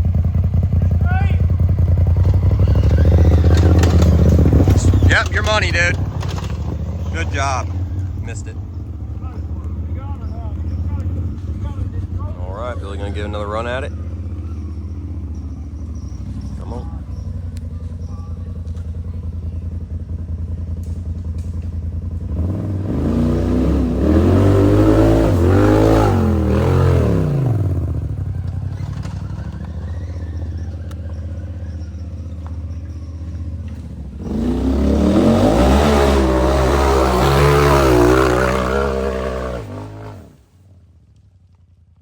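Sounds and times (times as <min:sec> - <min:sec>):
utv engine idling and revving: 0:00.0 - 0:42.0.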